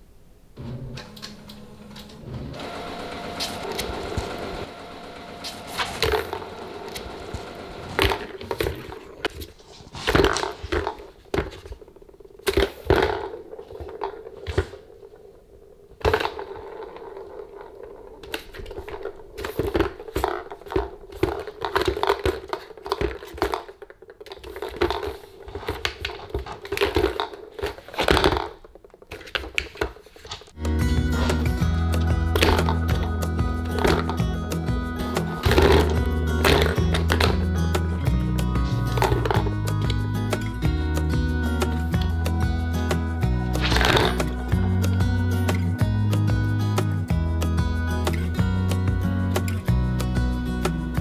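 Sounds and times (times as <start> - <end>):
plastic balls rolling on tracks: 0.6 - 51.0.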